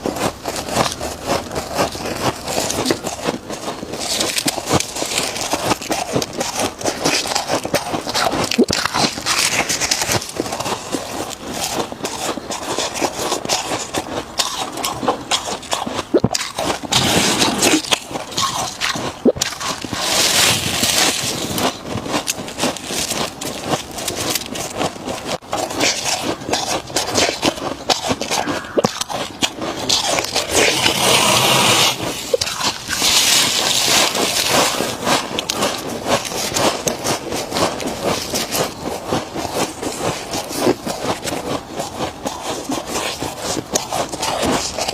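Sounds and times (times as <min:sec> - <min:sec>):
frost being crunched by teeth: 0:00.2 - 0:44.9.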